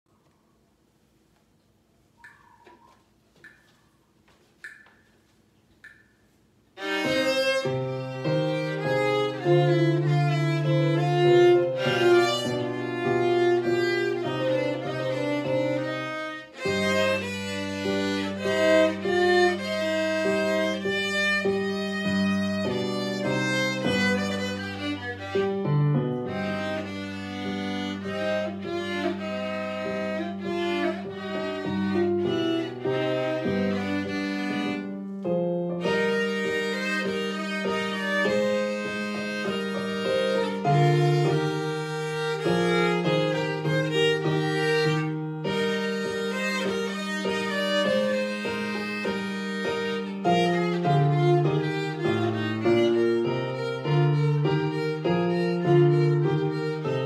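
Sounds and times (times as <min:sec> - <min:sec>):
piano accompaniment: 0:05.8 - 0:57.0
viola playing: 0:06.8 - 0:57.0.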